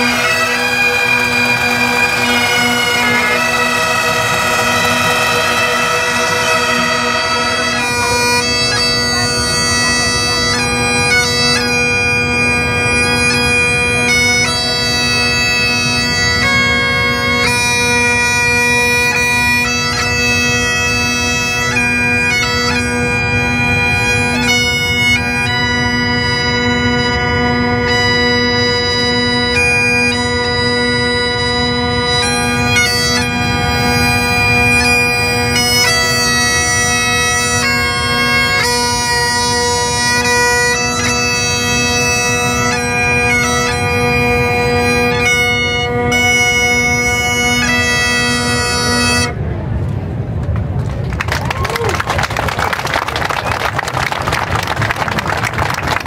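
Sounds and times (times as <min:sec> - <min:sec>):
bagpipes playing a tune: 0:00.0 - 0:49.4.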